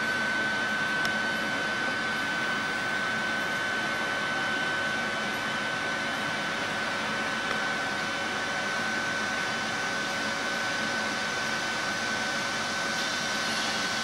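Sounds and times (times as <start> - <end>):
heater blower fan rushing: 0.0 - 14.0.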